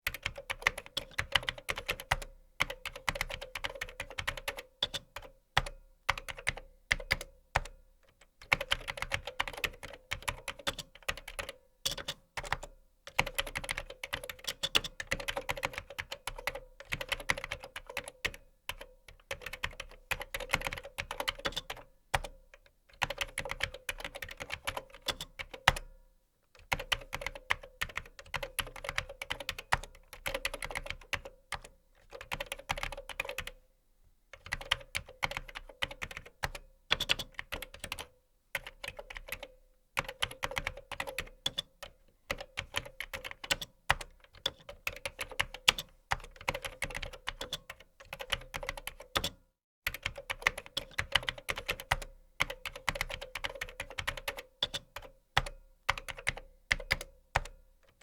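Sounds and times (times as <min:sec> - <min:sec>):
computer keyboard typing: 0:00.1 - 0:07.8, 0:08.4 - 0:25.9, 0:26.6 - 0:33.6, 0:34.4 - 0:58.0.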